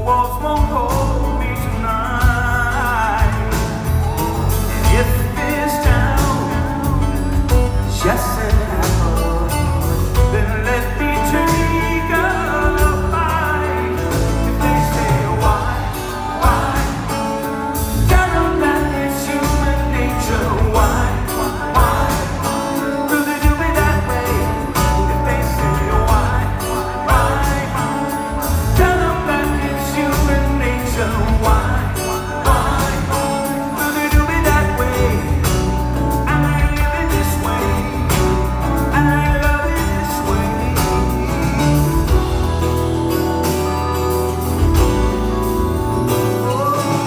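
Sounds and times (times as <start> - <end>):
man singing: 0.0 - 43.4, 44.2 - 47.0
electric bass: 0.0 - 47.0
live rock band playing: 0.0 - 47.0.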